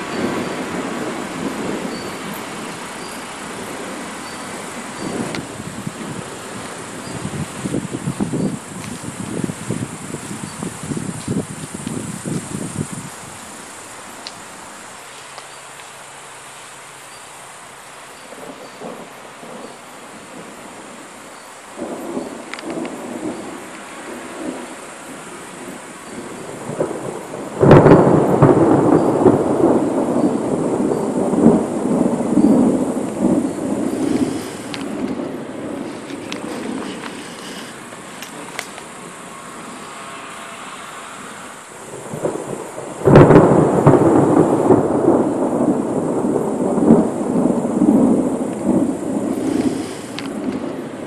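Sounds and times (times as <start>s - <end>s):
thunder clap and rumble: 0.0s - 13.5s, 18.3s - 39.9s, 41.5s - 51.0s.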